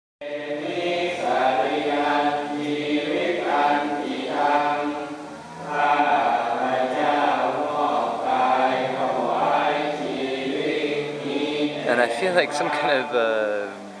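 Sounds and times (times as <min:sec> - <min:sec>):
deep male voices chanting: 0:00.2 - 0:13.9.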